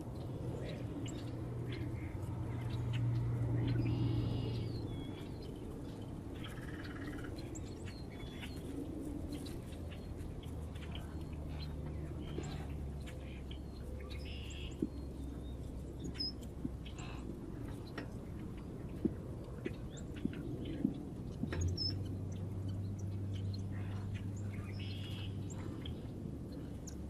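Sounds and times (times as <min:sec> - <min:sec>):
small songbirds chirping: 0:00.0 - 0:27.0
steady low rumble: 0:00.0 - 0:27.0.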